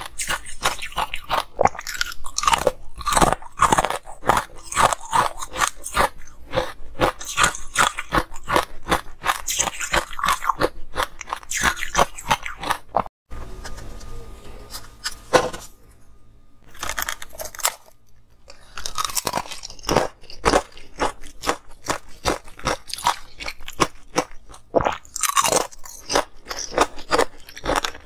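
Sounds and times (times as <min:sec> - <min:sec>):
crunching and chewing ice: 0:00.0 - 0:13.1, 0:16.7 - 0:28.0.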